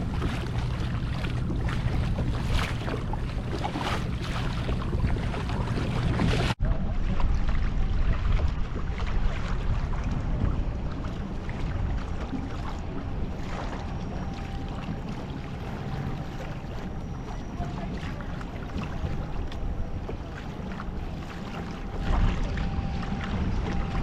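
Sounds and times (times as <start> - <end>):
water splashing against kayak hull: 0.0 - 24.0
wind buffeting microphone: 0.0 - 24.0.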